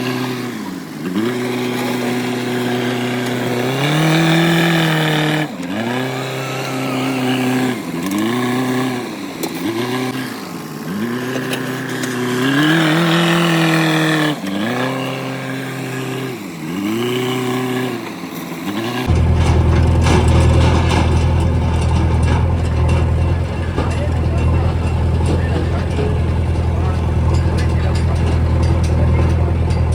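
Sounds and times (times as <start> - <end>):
engine revving: 0.0 - 29.9
heavy diesel engine rumbling: 0.0 - 29.9.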